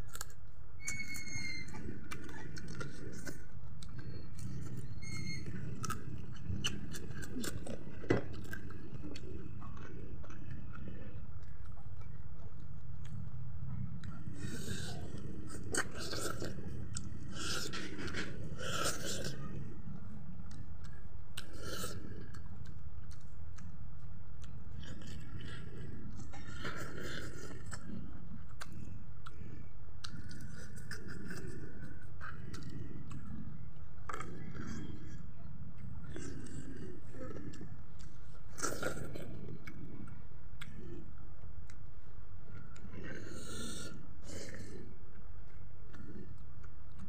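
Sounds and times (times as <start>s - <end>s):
low background rumble: 0.0s - 47.0s
man chewing wetly: 0.0s - 47.0s.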